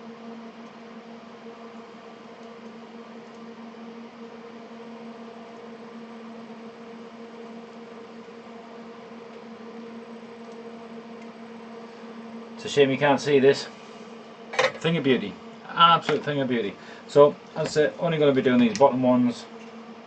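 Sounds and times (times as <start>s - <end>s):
electric hum with hiss: 0.0s - 20.0s.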